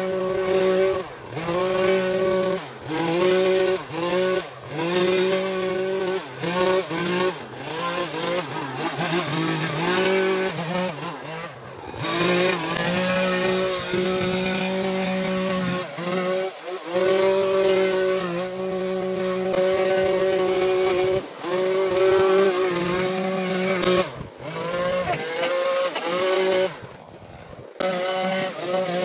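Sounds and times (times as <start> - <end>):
small gas engine running: 0.0 - 29.0.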